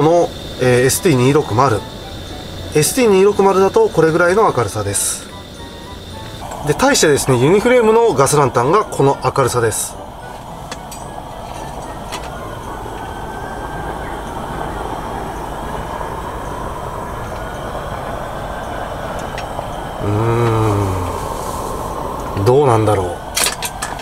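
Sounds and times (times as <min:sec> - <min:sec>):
gas lantern hissing: 0:00.0 - 0:24.0.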